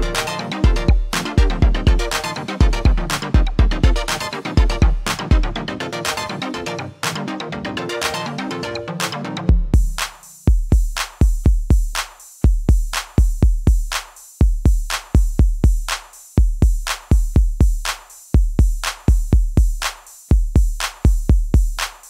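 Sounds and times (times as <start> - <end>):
drum machine bass drum beat: 0.0 - 7.3, 8.0 - 22.0.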